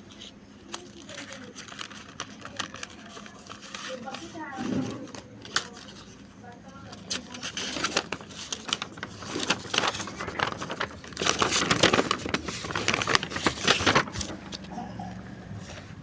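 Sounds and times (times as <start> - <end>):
card packaging crinkling: 0.1 - 14.8.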